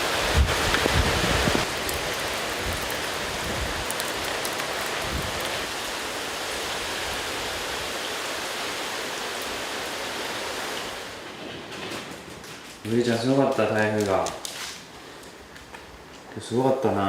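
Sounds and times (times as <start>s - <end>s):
heavy rain pouring: 0.0s - 14.7s.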